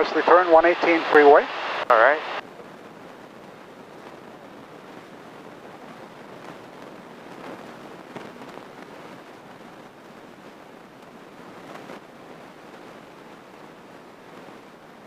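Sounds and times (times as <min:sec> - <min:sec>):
airplane cabin air and engine rush: 0:00.0 - 0:15.0.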